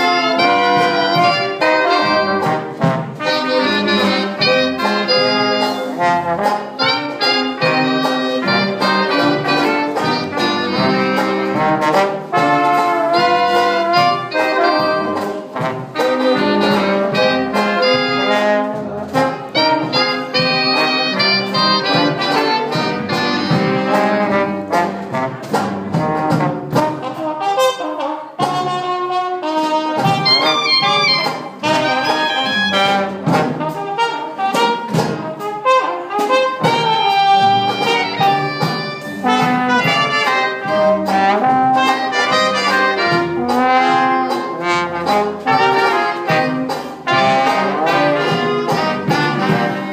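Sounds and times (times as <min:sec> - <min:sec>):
jazz band playing: 0:00.0 - 0:49.9.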